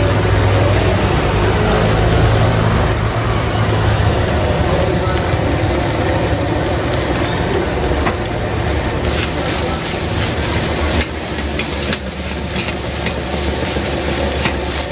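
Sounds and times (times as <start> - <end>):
gas burner roaring: 0.0 - 14.9
street traffic: 0.0 - 14.9.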